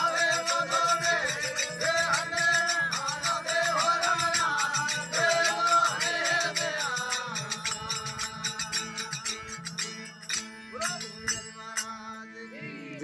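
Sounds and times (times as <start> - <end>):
rhythmic rattling percussion: 0.0 - 12.8
person singing with ornamented pitch: 0.0 - 13.0.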